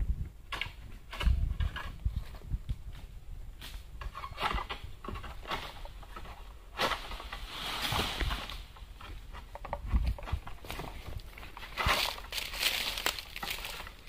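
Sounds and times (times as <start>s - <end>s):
palm fronds rustling: 0.6s - 14.0s.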